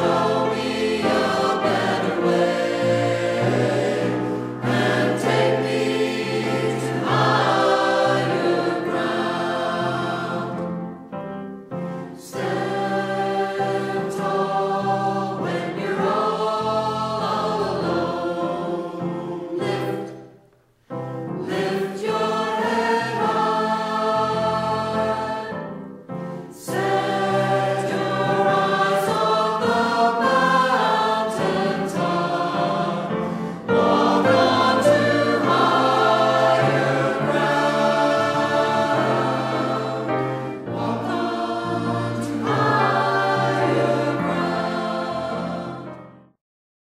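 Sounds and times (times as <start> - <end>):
church choir singing: 0.0 - 46.4.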